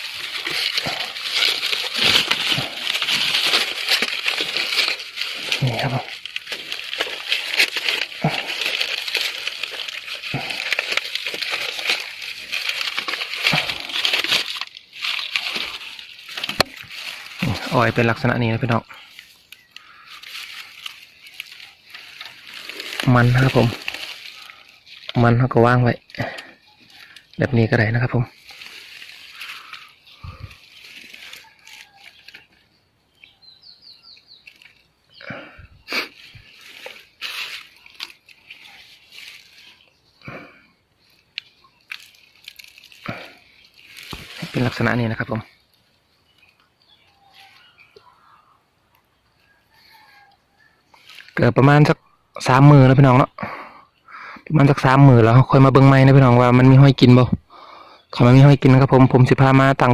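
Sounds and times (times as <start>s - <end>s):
twigs and leaves crackling: 0.0s - 59.9s.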